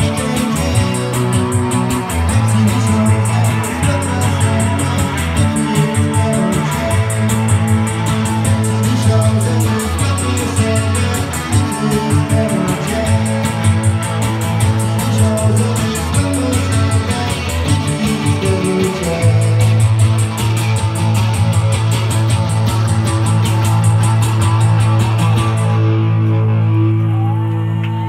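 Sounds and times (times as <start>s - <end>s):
fast high ticking beat: 0.0s - 25.9s
electric guitar: 0.0s - 28.0s.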